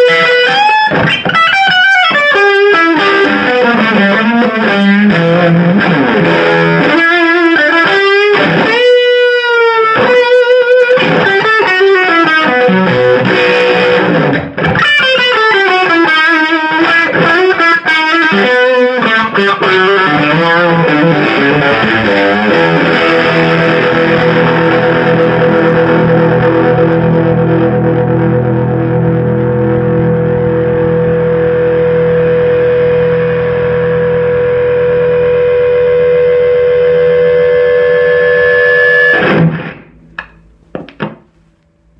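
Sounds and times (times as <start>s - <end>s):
overdriven electric guitar: 0.0s - 41.9s.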